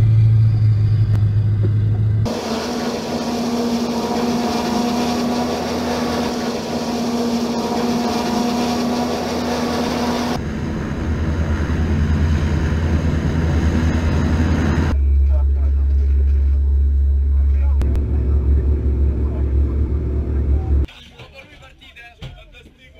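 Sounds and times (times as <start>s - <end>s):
hovercraft engine rushing noise: 0.0s - 20.9s
hovercraft mechanical hum: 0.0s - 20.9s.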